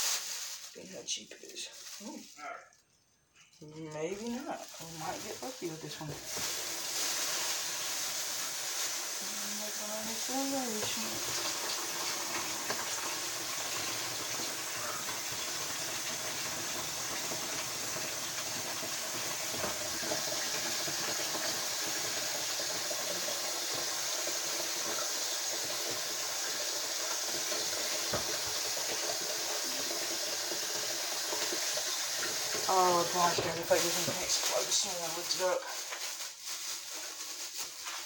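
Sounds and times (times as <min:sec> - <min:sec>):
water running from tap: 0:00.0 - 0:00.5, 0:04.0 - 0:38.0.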